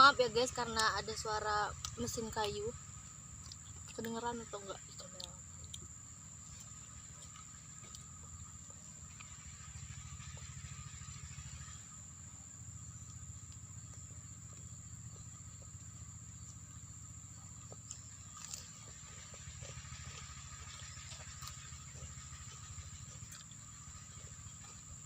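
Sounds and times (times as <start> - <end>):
distant machine engine humming: 0.0 - 25.0
high insect drone: 0.0 - 25.0.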